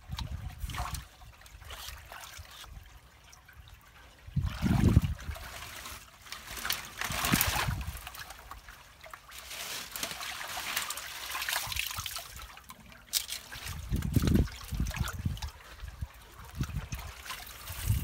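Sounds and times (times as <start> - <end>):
water splashing and sloshing: 0.0 - 18.0
water trickling: 0.0 - 18.0.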